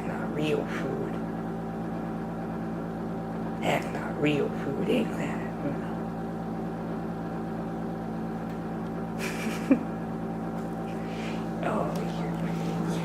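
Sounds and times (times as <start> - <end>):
refrigerator humming: 0.0 - 13.0.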